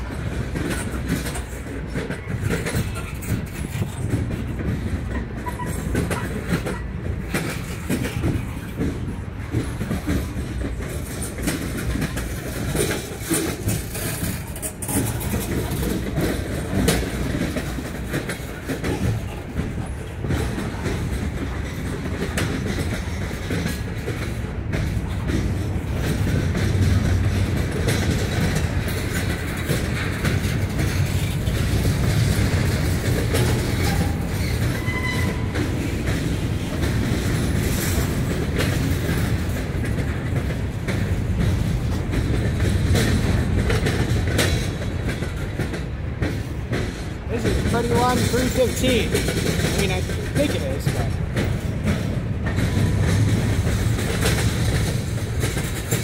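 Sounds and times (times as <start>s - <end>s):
train wheels rumbling on rails: 0.0s - 56.0s
wheels clicking over rail joints: 0.0s - 56.0s.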